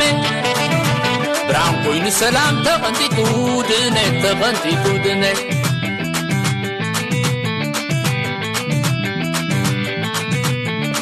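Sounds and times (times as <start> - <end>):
live band instrumental music: 0.0 - 11.0.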